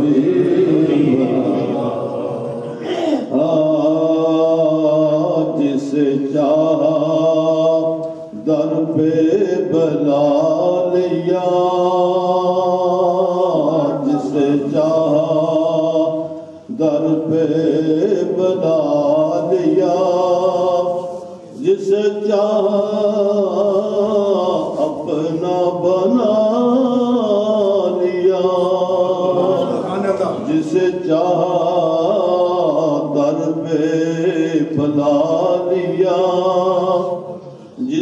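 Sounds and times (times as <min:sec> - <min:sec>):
man chanting: 0:00.0 - 0:38.0.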